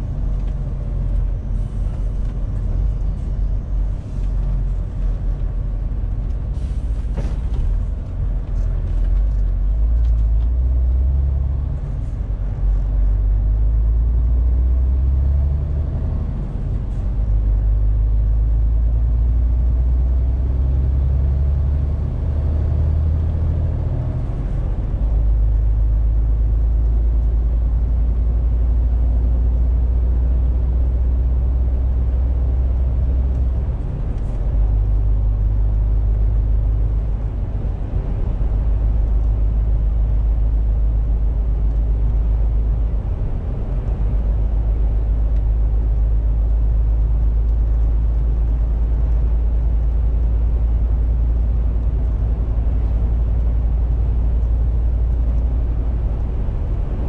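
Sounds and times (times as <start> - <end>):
road noise: 0.0 - 57.0
truck diesel engine drone: 0.0 - 57.0.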